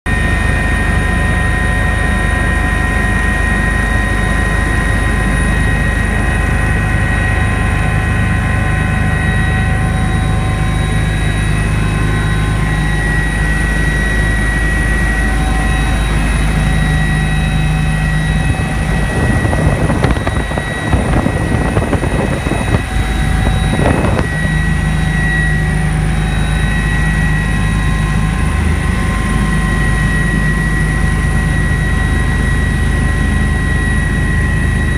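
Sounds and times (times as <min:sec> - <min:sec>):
helicopter rotor and engine rumble: 0:00.1 - 0:34.9
high turbine whines: 0:00.1 - 0:34.9.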